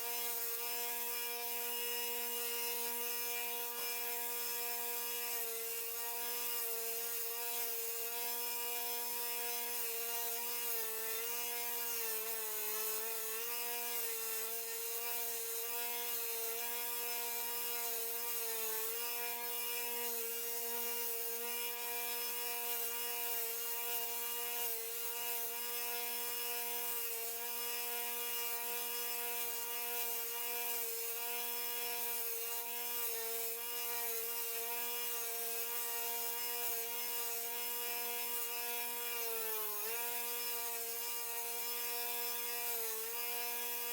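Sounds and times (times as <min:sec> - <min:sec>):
power sander grinding wood: 0:00.0 - 0:43.9.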